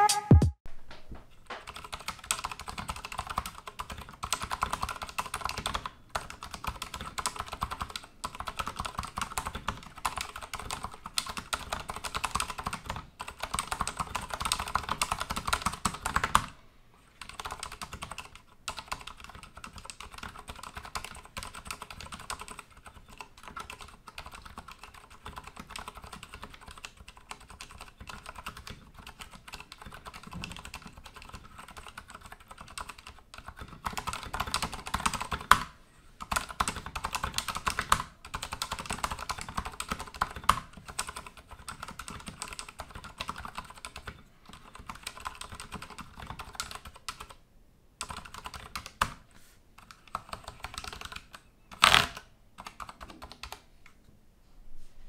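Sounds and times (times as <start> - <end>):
typing on mechanical keyboard: 1.6 - 16.5, 17.2 - 47.4, 48.0 - 49.2, 49.8 - 53.6.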